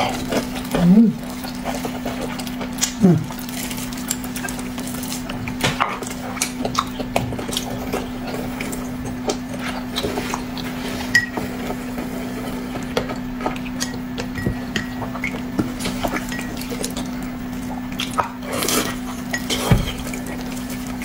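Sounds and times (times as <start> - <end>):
eating noises: 0.0 - 21.0
steady low hum: 0.0 - 21.0.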